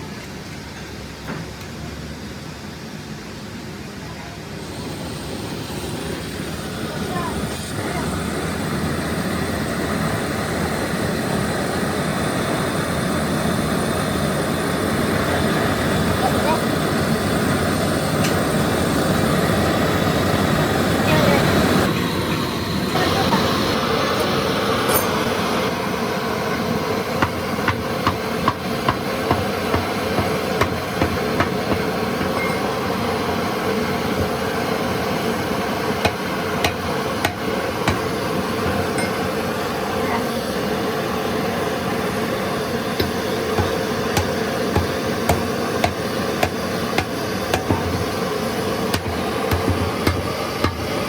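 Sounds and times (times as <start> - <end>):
steady noisy drone: 1.8 - 51.0.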